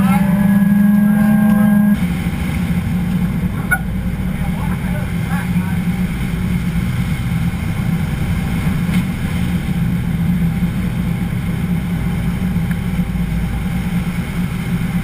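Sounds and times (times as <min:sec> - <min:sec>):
boat engines humming: 0:00.0 - 0:15.0.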